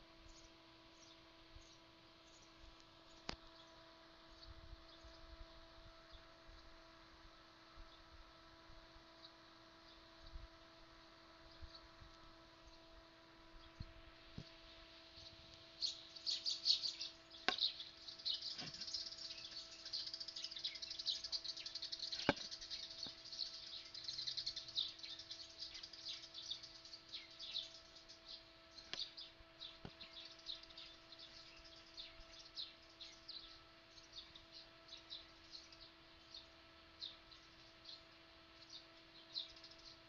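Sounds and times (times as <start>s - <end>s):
small birds chirping: 0.0s - 6.9s, 7.7s - 40.0s
faint steady hum: 0.0s - 40.0s.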